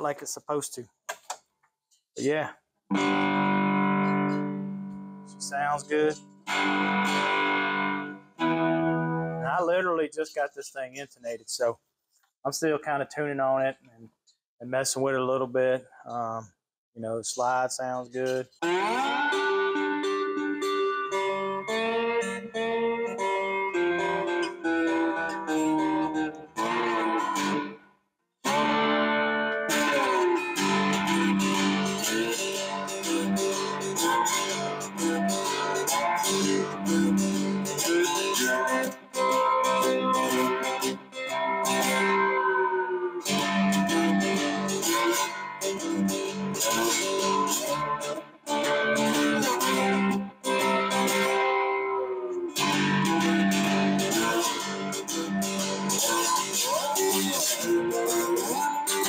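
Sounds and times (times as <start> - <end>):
slide guitar notes: 2.2 - 10.6, 17.3 - 27.8, 28.5 - 59.0.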